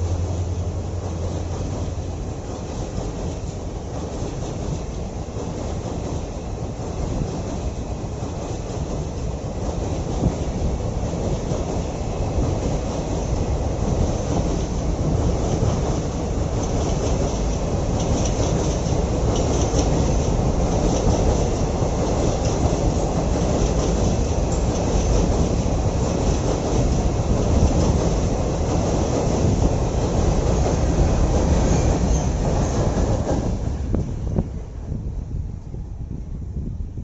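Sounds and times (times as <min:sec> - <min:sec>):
train wheels rumbling on rails: 0:00.0 - 0:37.0
wheels clicking over rail joints: 0:00.2 - 0:34.2.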